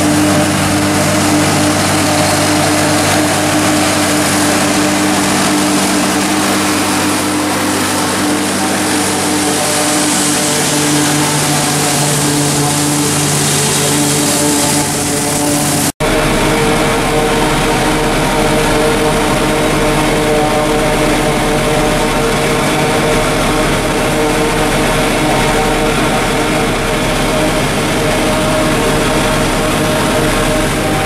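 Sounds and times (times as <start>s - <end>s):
steady whine: 0.0s - 31.0s
tractor diesel engine drone: 0.0s - 31.0s.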